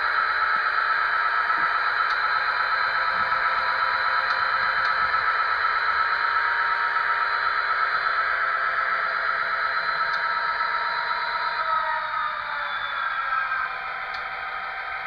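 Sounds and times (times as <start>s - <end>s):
model locomotive diesel engine drone: 0.0s - 15.0s.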